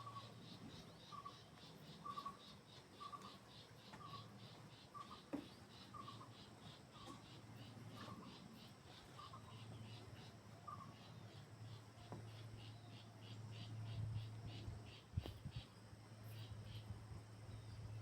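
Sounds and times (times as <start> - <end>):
insect chirping: 0.0 - 18.0
low steady hum: 0.0 - 18.0.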